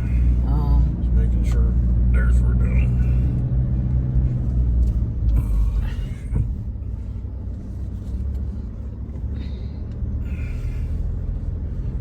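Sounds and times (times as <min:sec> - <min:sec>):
vehicle rumble on rough road: 0:00.0 - 0:12.0.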